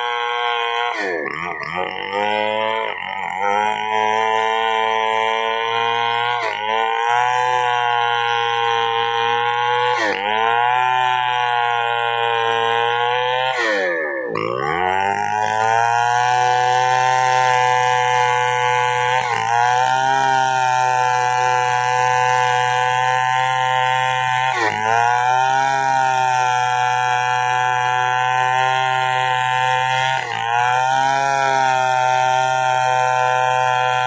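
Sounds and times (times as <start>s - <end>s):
chainsaw engine running: 0.0s - 34.0s.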